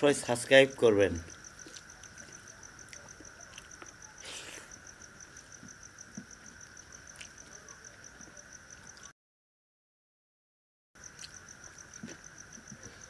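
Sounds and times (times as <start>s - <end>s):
crickets chirping: 0.0s - 9.1s, 11.0s - 13.0s
low insect drone: 0.0s - 9.1s, 11.0s - 13.0s.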